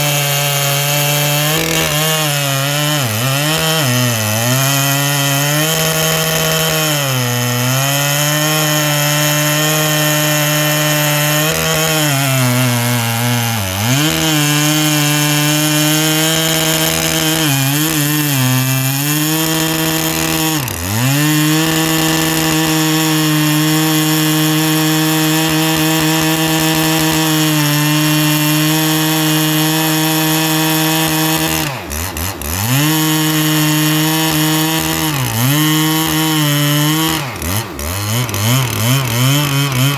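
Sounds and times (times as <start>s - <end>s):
chainsaw cutting log at high revs: 0.0s - 39.9s
chainsaw rev limiter cutting in: 0.0s - 39.9s.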